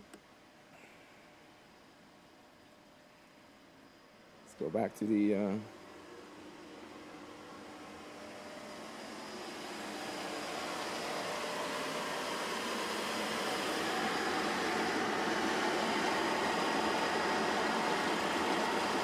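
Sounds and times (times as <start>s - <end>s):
pool pump and heater whirring: 0.0s - 19.0s.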